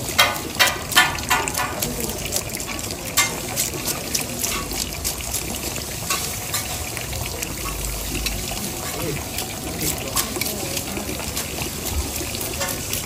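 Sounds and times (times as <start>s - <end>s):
fish sizzling in hot oil: 0.0s - 13.0s
oil crackling: 0.0s - 13.0s.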